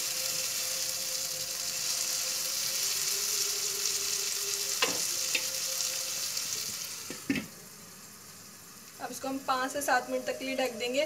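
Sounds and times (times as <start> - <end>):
okra sizzling in oil: 0.0 - 11.0.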